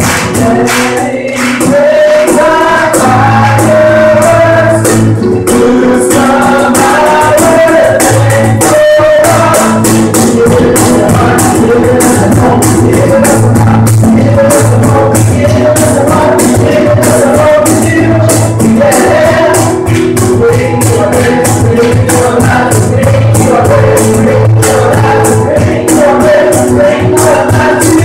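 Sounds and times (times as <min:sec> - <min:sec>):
acoustic guitar: 0:00.0 - 0:28.0
cajon beat: 0:00.0 - 0:28.0
voices singing: 0:00.0 - 0:28.0.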